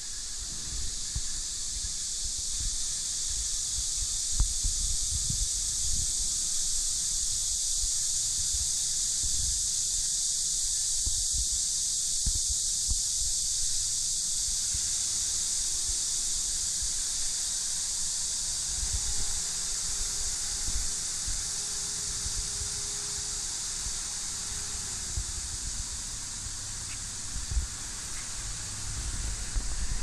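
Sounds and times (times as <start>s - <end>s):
steady high-pitched hiss: 0.0s - 30.0s.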